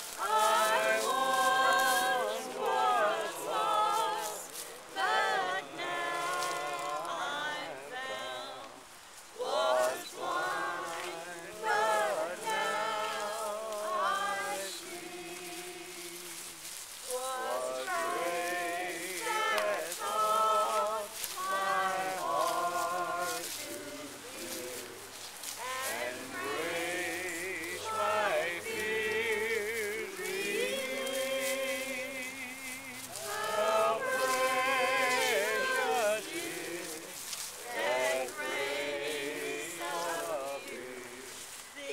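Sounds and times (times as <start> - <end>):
slow singing with vibrato: 0.0 - 41.9.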